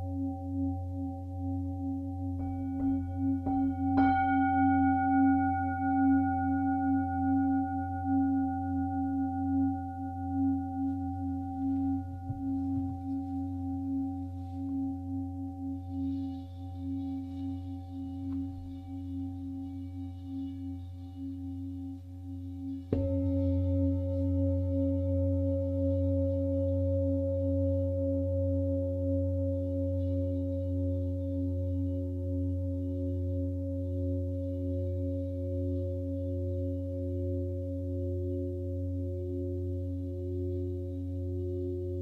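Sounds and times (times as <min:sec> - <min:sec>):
ambient drone music: 0:00.0 - 0:42.0.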